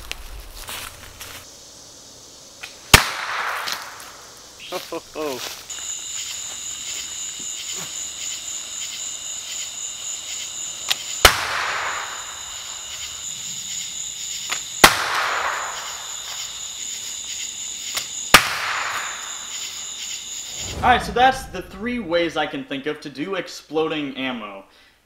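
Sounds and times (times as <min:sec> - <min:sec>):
crickets chirping: 0:00.0 - 0:23.3.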